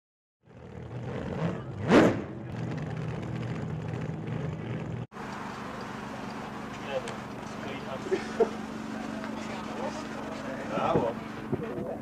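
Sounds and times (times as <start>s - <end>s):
engine running: 0.4s - 12.0s.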